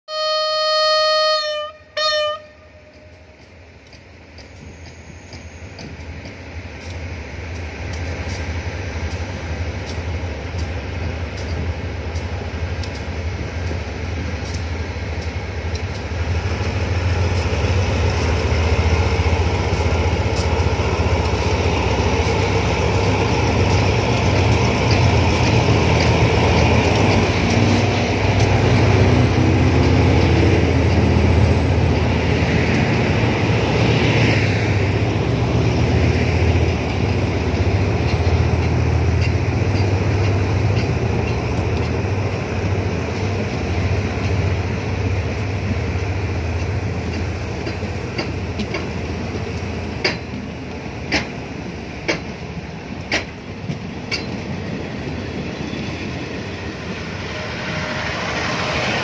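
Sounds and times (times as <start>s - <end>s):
train coaches rolling on rails: 0.1s - 59.0s
locomotive engine drone: 0.4s - 59.0s.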